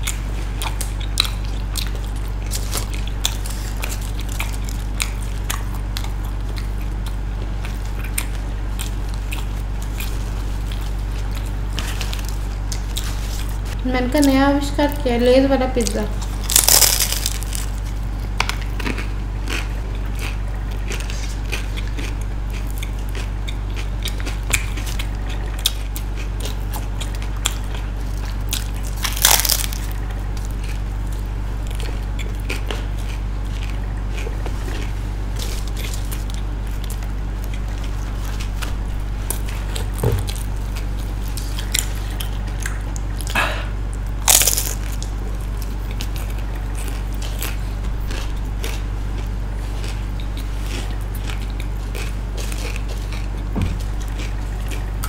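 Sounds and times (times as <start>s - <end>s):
people chewing crunchy food: 0.0s - 14.4s, 15.8s - 55.0s
steady low hum: 0.0s - 55.0s.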